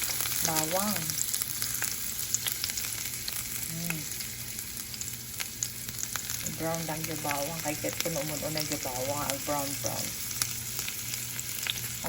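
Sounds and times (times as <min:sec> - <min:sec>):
garlic sizzling in oil: 0:00.0 - 0:12.0
oil crackles: 0:00.0 - 0:12.0.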